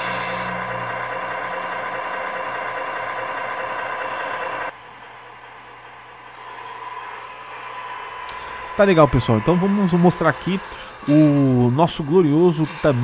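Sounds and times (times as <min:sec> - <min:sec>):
simulated diesel engine idling: 0:00.0 - 0:13.0.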